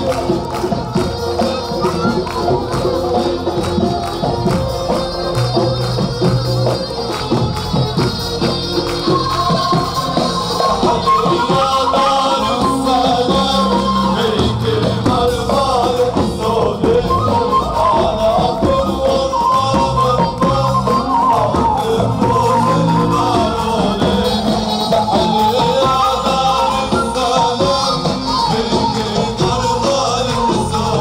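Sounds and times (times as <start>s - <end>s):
live band playing folk music: 0.0s - 31.0s
person singing: 0.0s - 31.0s.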